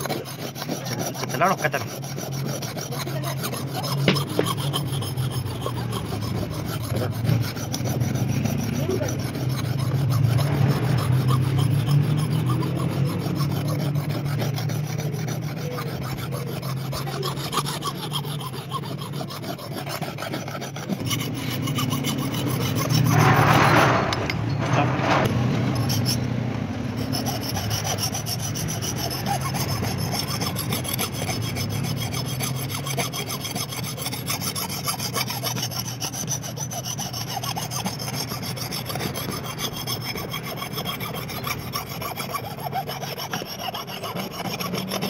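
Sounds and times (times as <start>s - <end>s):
file rasping on axe head: 0.0s - 45.0s.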